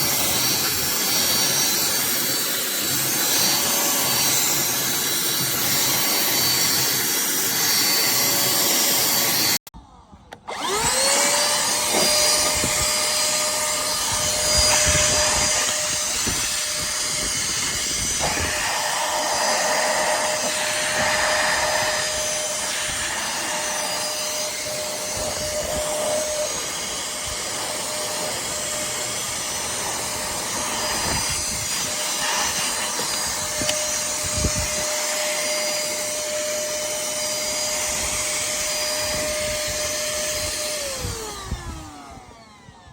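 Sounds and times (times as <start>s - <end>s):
handheld vacuum cleaner whine: 0.0s - 42.9s.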